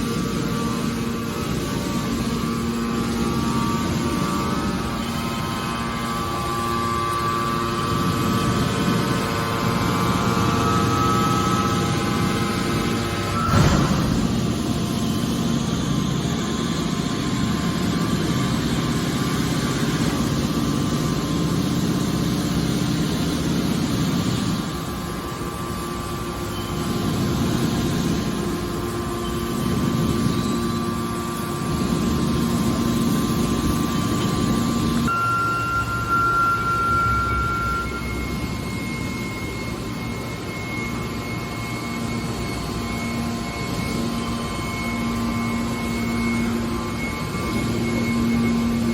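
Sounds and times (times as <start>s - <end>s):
hydraulic press machine drone: 0.0s - 48.9s.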